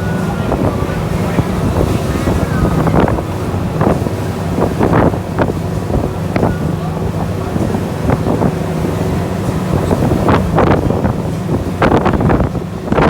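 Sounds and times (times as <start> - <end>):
boat engine droning: 0.0 - 13.0
wind buffeting microphone: 0.0 - 13.0.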